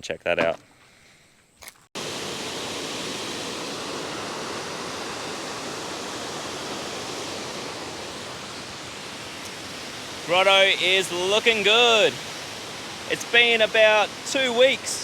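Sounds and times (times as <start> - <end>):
waterfall rushing: 2.0 - 15.0.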